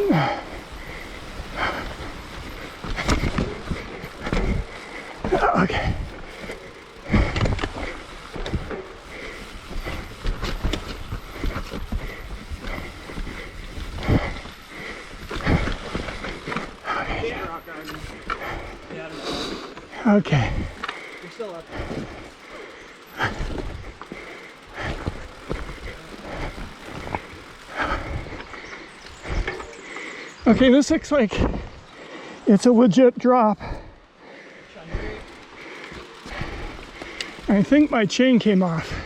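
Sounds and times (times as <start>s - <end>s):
bike knocking and rattling: 0.0s - 32.1s, 33.6s - 39.0s
bike tyres rolling on dirt: 0.0s - 39.0s.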